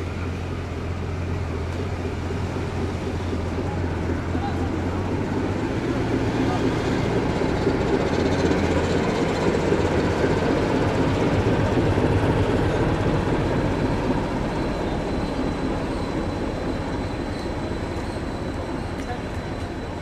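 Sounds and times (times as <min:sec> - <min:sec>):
locomotive engine hum: 0:00.0 - 0:20.0
train wheel noise: 0:00.0 - 0:20.0.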